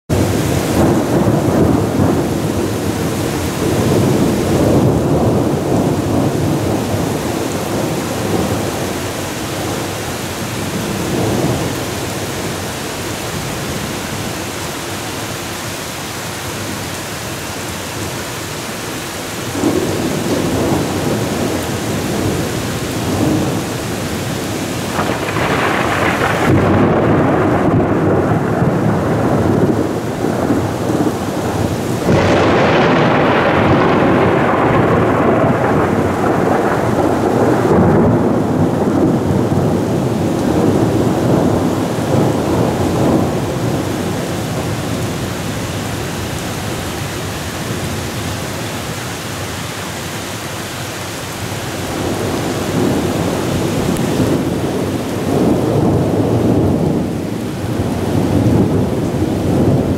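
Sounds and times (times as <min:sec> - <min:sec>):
thunder rumbling: 0:00.1 - 0:49.5, 0:51.2 - 0:59.9
steady rain: 0:00.1 - 0:59.9.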